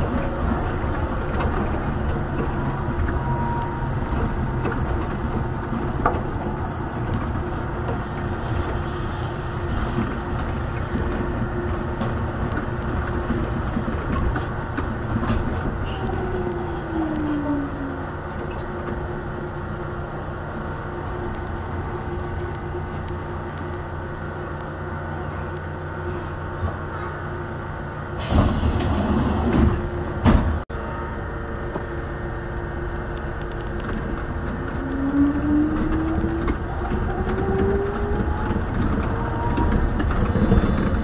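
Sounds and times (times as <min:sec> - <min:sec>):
train running noise: 0:00.0 - 0:41.0.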